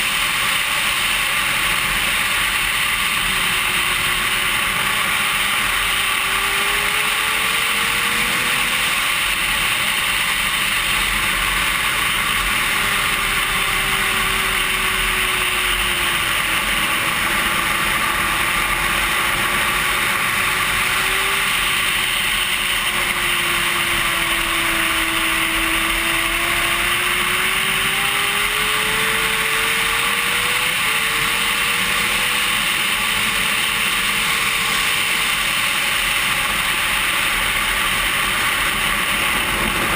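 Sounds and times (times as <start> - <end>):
motorcycle engine: 0.0 - 39.9
wind noise: 1.1 - 39.9.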